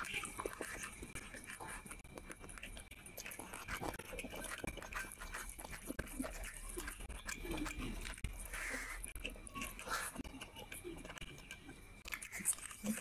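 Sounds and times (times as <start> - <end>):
wet chewing and mouth smacks: 0.0 - 13.0.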